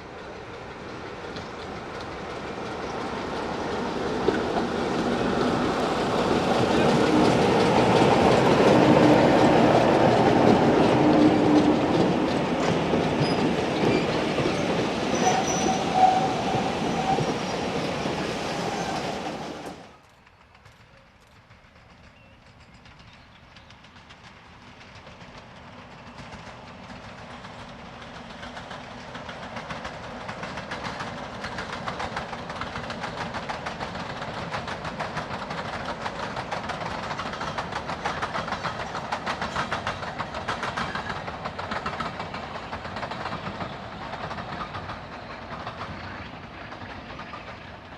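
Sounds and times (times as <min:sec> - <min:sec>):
train clickety-clack: 0:00.0 - 0:47.9
train wheels clattering: 0:00.0 - 0:47.9.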